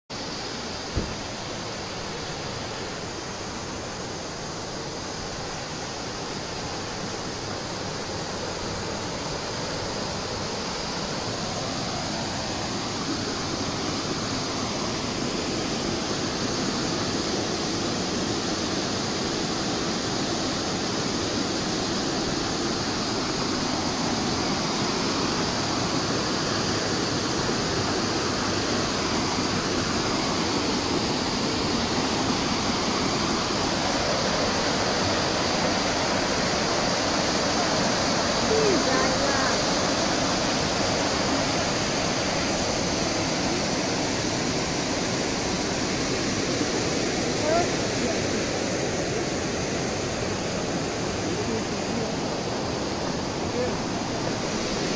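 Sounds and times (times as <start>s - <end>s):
waterfall rushing: 0.2s - 54.9s.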